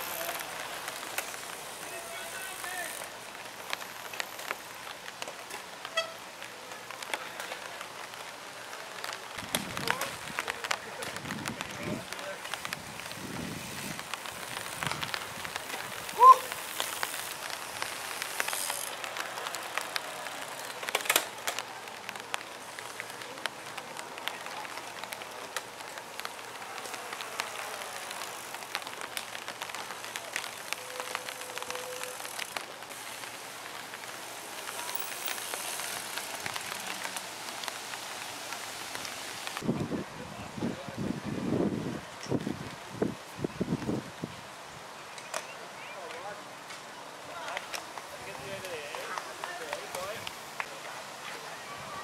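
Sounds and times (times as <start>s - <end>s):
light rain falling: 0.0s - 52.0s.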